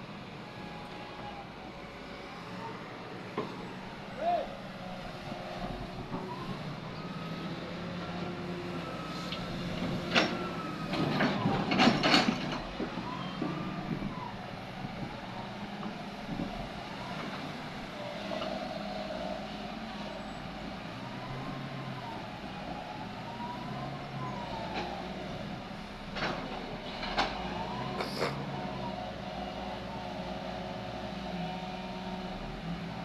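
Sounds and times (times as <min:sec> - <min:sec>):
excavator diesel engine running: 0:00.1 - 0:33.0.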